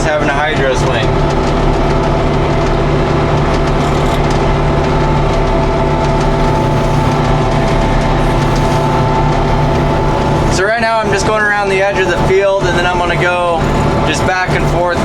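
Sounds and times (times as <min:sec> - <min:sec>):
tractor and swather humming: 0:00.0 - 0:15.0.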